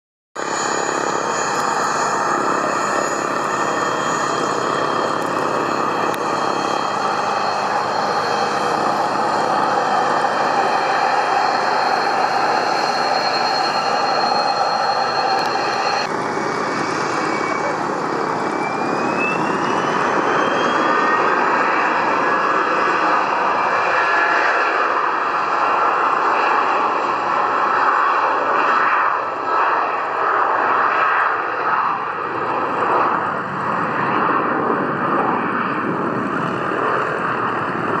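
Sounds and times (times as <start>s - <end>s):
jet engine whine rising: 0.4s - 38.0s
jet engines roaring: 0.4s - 38.0s.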